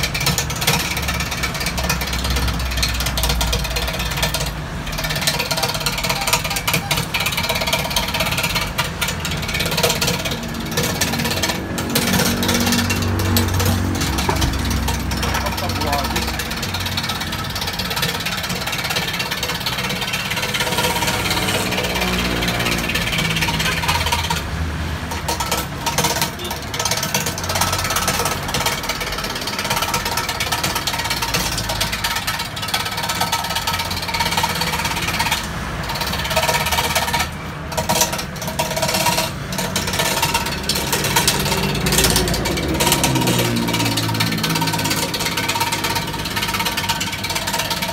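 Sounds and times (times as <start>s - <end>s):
chisel cutting spinning wood: 0.0s - 47.9s
wood lathe rattling: 0.0s - 47.9s.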